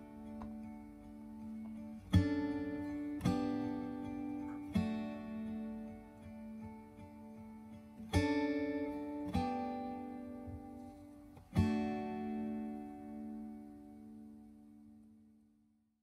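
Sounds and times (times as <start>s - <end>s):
acoustic guitar strumming chords: 0.0s - 15.3s.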